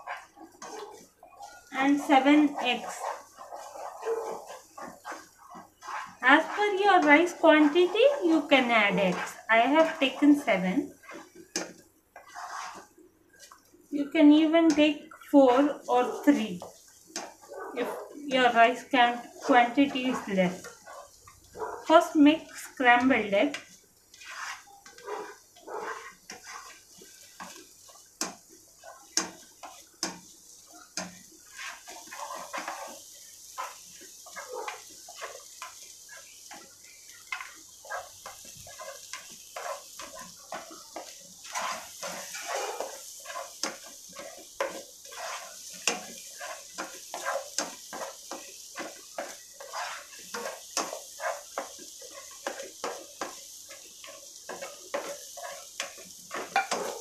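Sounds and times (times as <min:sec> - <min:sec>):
spatula scraping a pot: 0:00.0 - 0:13.6, 0:14.7 - 0:57.0
faint sizzle of egg: 0:00.0 - 0:57.0.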